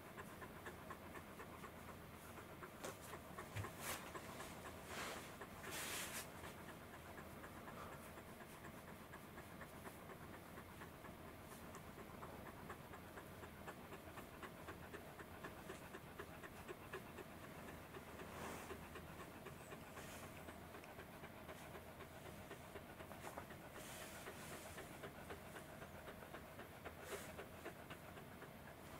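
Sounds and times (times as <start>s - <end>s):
dog panting: 0.0s - 28.9s.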